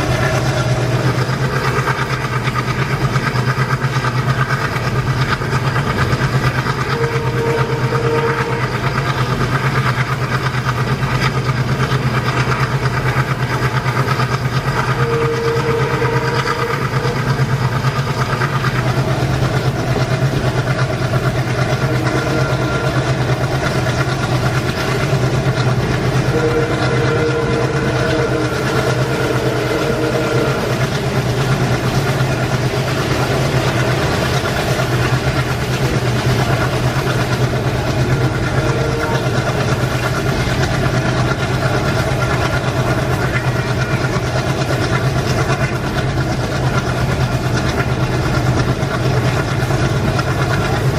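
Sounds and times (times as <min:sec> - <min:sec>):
train low hum: 0:00.0 - 0:50.9
train rolling clatter: 0:00.0 - 0:50.9.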